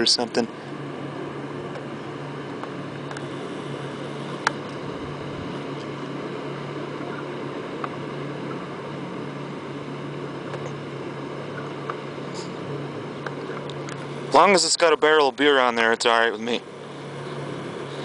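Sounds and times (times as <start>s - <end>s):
outboard motors droning: 0.0s - 18.0s.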